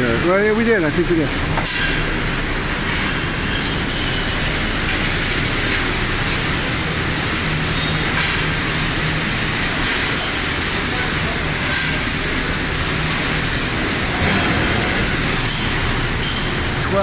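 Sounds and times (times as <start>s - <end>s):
factory machinery hiss: 0.0s - 17.0s
low machinery hum: 0.0s - 17.0s.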